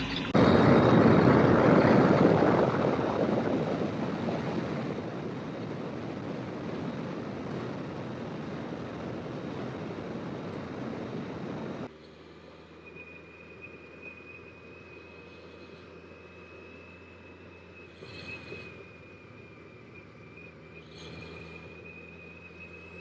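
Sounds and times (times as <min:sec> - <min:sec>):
wind rush on moving motorcycle: 0:00.0 - 0:12.0, 0:12.6 - 0:23.0
motorcycle road noise: 0:00.0 - 0:23.0.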